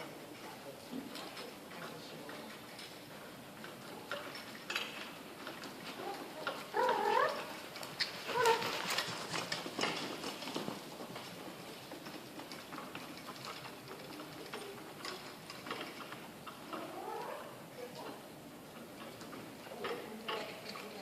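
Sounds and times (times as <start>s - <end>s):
pony hooves and cart clattering: 0.0s - 21.0s.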